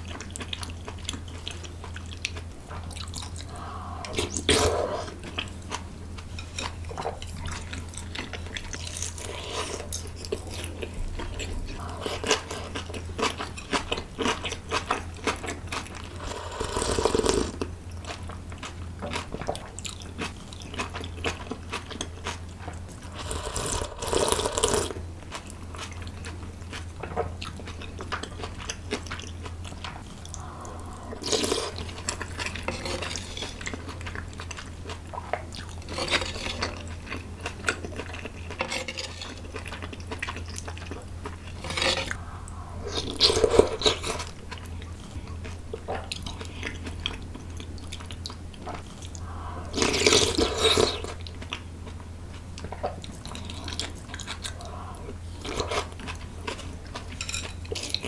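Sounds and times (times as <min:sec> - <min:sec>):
chewing with wet mouth clicks: 0:00.0 - 0:58.0
steady low hum: 0:00.0 - 0:58.0.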